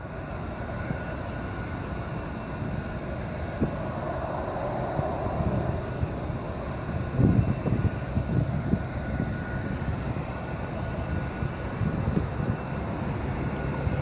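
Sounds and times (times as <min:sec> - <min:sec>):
jet engines roaring: 0:00.0 - 0:14.0
wind buffeting microphone: 0:00.1 - 0:14.0.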